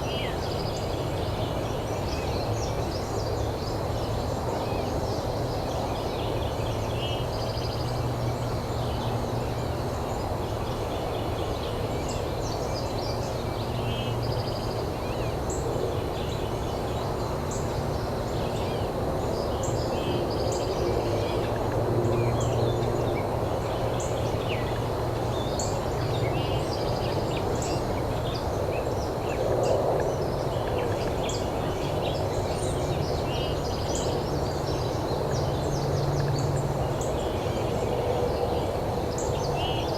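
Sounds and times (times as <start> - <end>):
steady outdoor noise: 0.0 - 39.9.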